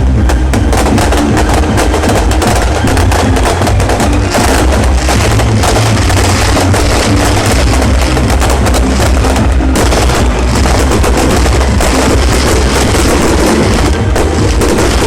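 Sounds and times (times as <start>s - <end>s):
fireworks crackling: 0.0s - 15.0s
low rumble of fireworks: 0.0s - 15.0s.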